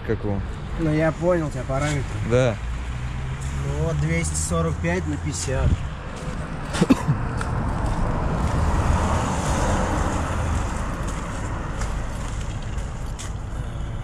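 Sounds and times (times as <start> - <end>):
passing motor vehicle: 0.2 - 14.0.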